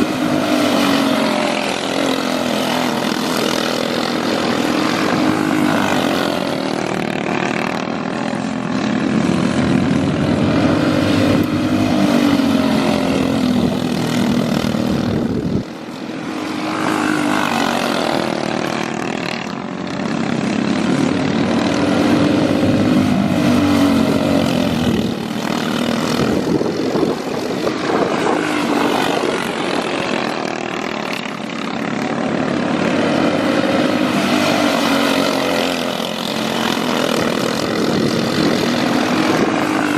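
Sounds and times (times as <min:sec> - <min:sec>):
racing kart engines: 0:00.0 - 0:39.9.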